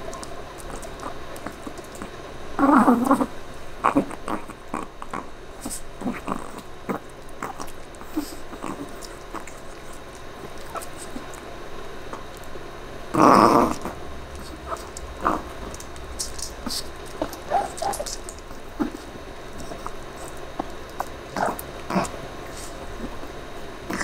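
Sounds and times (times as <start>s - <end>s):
dog gnawing and crunching bone: 0.0s - 24.0s.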